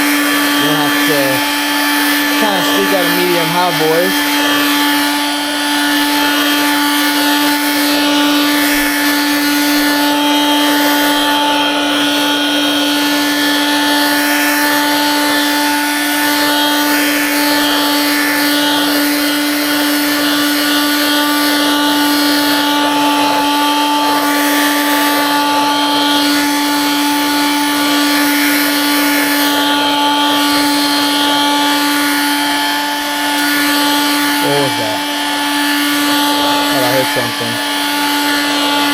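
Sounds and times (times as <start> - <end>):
hand vacuum running: 0.0 - 38.9.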